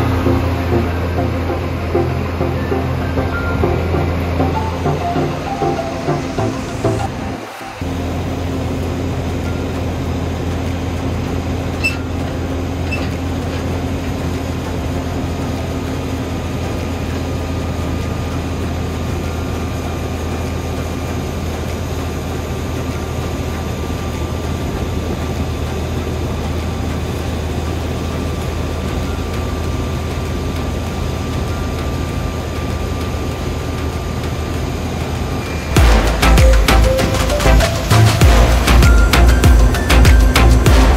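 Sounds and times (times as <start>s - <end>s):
heavy engine humming: 0.0s - 40.9s.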